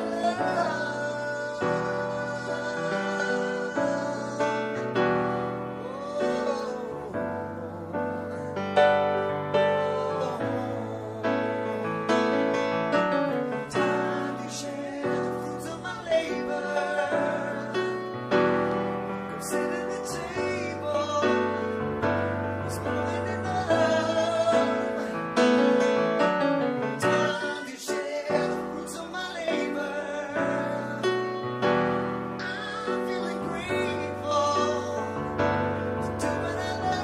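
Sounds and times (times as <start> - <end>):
person singing: 0.0 - 37.0.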